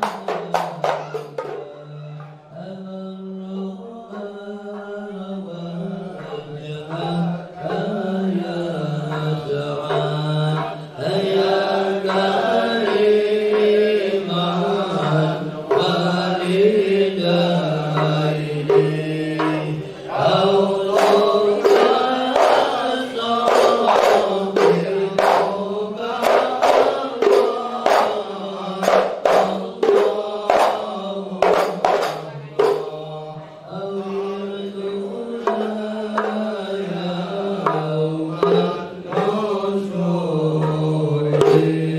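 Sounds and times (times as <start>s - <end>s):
men chanting in unison: 0.0s - 41.9s
sharp percussion beats: 0.0s - 41.9s.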